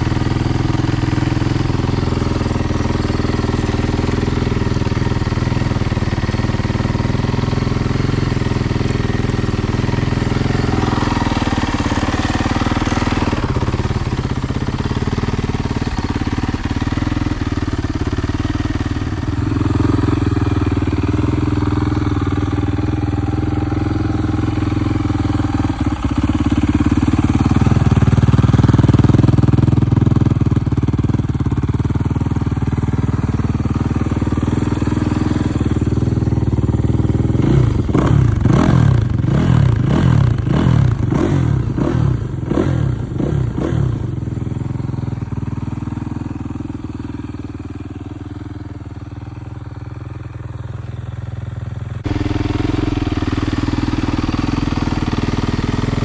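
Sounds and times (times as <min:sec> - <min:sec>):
dirt bike engine idling: 0:00.0 - 0:56.0.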